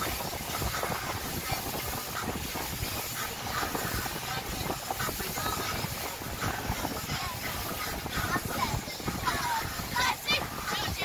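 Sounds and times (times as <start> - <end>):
boat motor running: 0.0 - 11.0
rush of wind and water: 0.0 - 11.0.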